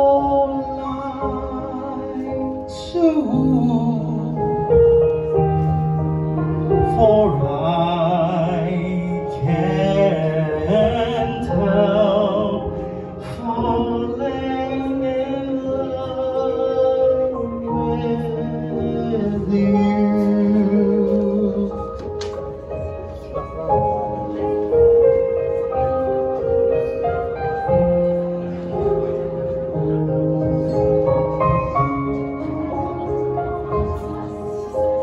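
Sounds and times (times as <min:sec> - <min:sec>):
instrumental accompaniment: 0:00.0 - 0:35.0.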